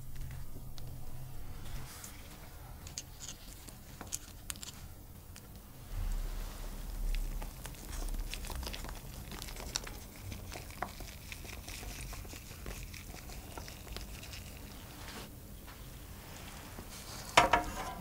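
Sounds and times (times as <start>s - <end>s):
light crinkling rustle: 0.0s - 18.0s.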